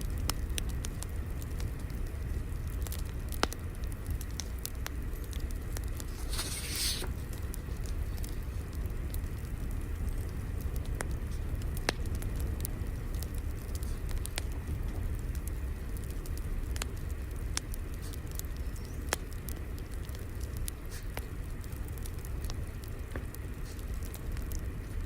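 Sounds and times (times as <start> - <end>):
fire crackling with pops: 0.0 - 25.0.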